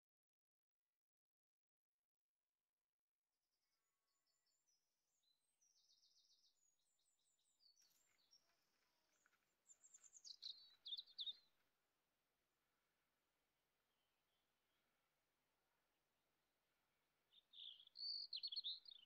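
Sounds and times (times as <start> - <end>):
songbirds chirping: 3.6 - 19.0.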